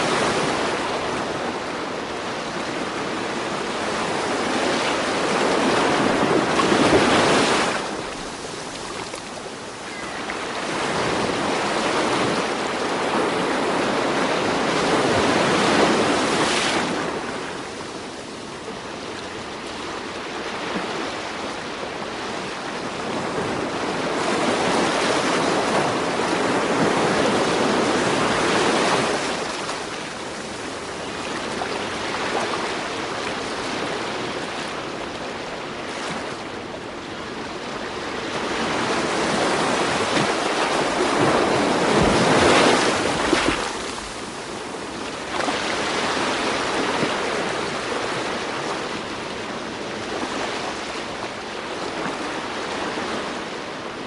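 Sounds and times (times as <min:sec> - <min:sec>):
ocean surf breaking on beach: 0:00.0 - 0:54.0.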